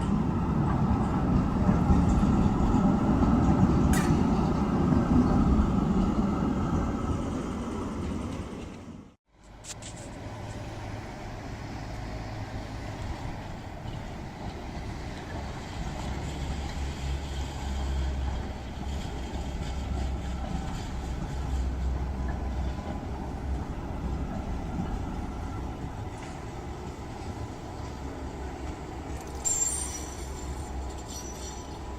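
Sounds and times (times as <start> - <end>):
tram rumbling on rails: 0.0 - 31.9.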